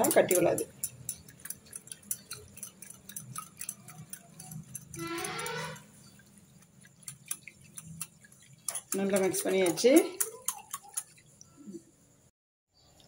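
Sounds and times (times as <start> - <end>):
whisk clicking against ceramic bowl: 0.0 - 11.4.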